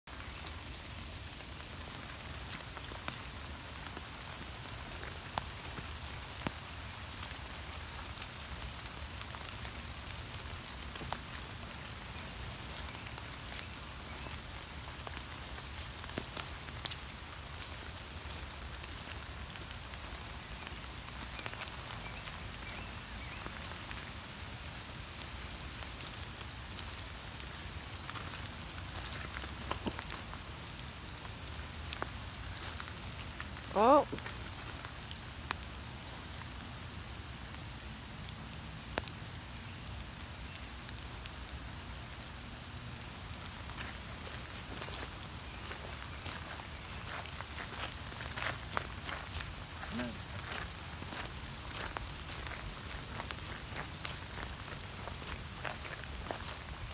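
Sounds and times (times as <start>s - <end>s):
rain falling on leaves: 0.0s - 56.9s
raindrop ticks: 0.1s - 56.9s.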